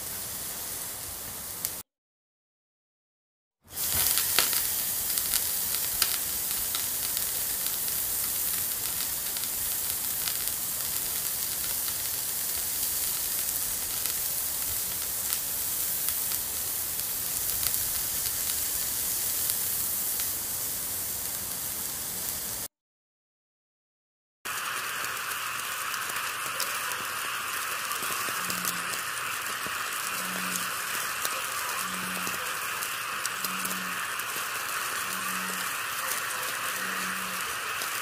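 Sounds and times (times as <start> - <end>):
meat sizzling on grill: 0.0 - 1.8, 3.7 - 22.7, 24.5 - 38.0.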